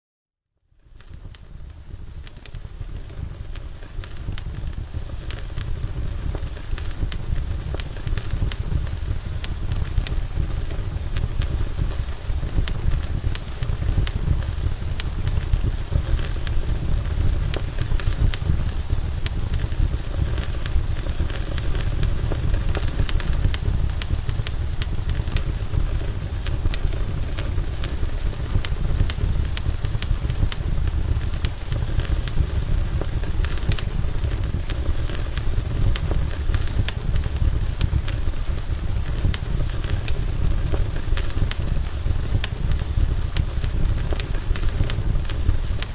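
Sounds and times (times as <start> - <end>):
fire low rumble: 0.8 - 45.9
campfire crackling and popping: 1.0 - 45.9.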